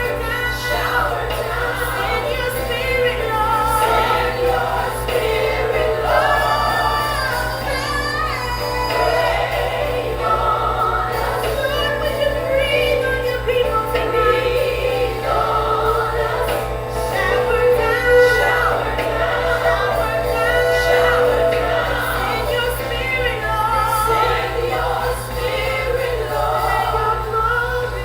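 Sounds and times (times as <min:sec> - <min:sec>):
choir singing: 0:00.0 - 0:28.0
woman singing lead: 0:00.0 - 0:28.0.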